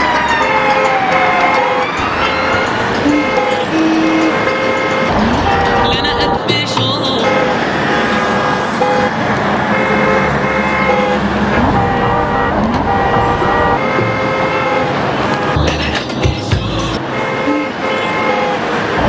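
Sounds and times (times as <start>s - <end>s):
car horns honking: 0.0s - 19.0s
rush of traffic: 0.0s - 19.0s.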